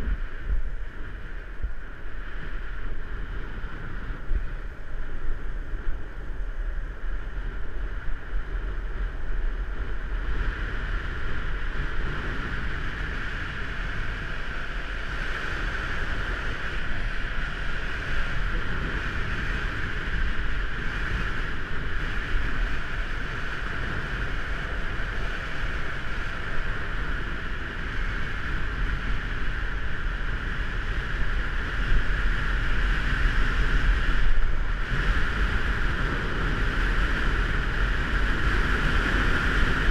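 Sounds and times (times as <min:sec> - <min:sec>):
skateboard wheels rolling on asphalt: 0:00.0 - 0:39.9
wind buffeting microphone: 0:00.0 - 0:39.9.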